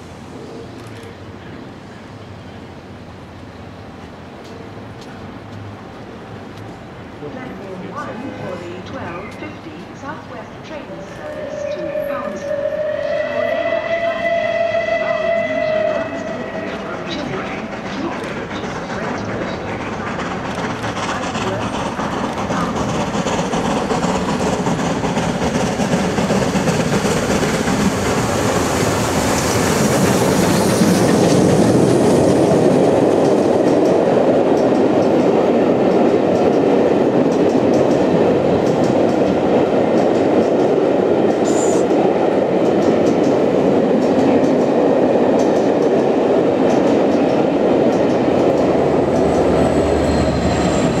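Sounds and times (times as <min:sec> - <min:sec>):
diesel locomotive passing: 0:00.0 - 0:51.0
steam locomotive passing: 0:00.0 - 0:51.0
train wheels clickety-clack: 0:04.0 - 0:13.1, 0:14.2 - 0:51.0.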